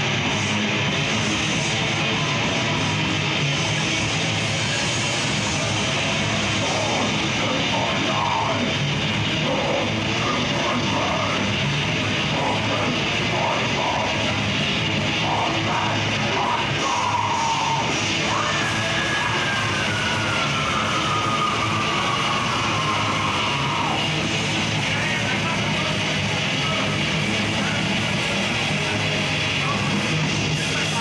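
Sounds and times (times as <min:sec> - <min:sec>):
death metal band playing live: 0:00.0 - 0:31.0
distorted electric guitar: 0:00.0 - 0:31.0.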